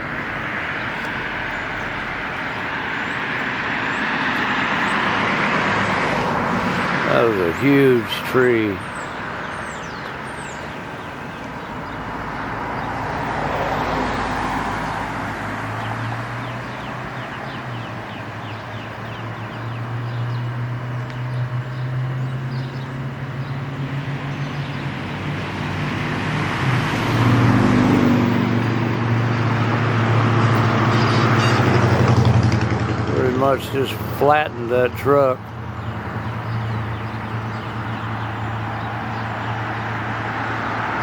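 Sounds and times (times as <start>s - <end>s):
vehicles passing: 0.0s - 41.0s.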